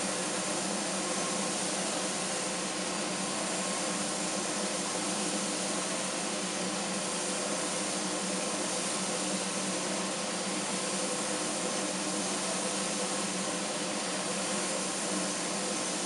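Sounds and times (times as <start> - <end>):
coffee roaster cooling fan hiss: 0.0 - 16.0.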